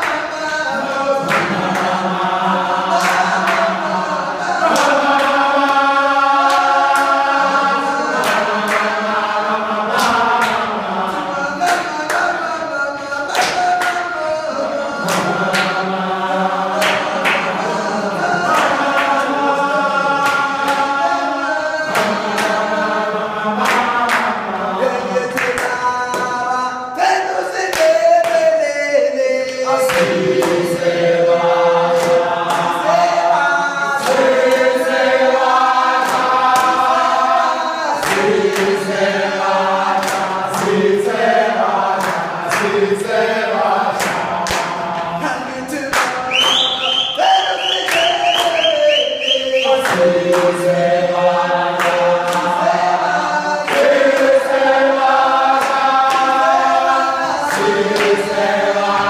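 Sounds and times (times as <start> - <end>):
choir singing in chorus: 0.0 - 59.0.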